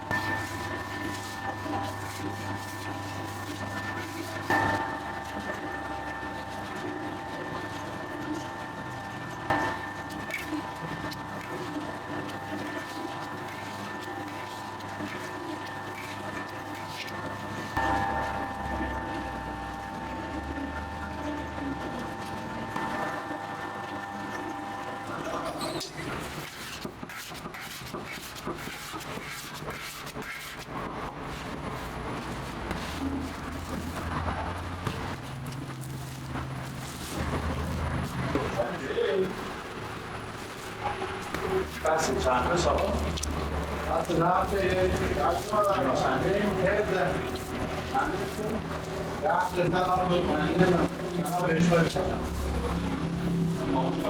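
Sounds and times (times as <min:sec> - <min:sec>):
dough mixer humming: 0:00.0 - 0:54.0.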